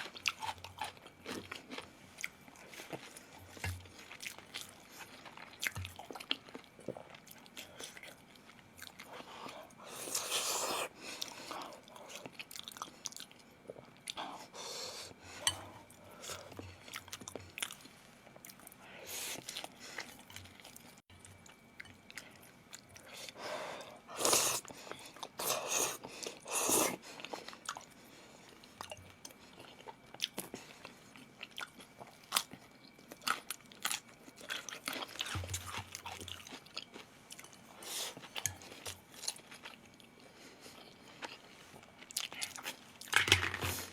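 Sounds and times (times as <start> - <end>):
person chewing and crunching: 0.0 - 43.9.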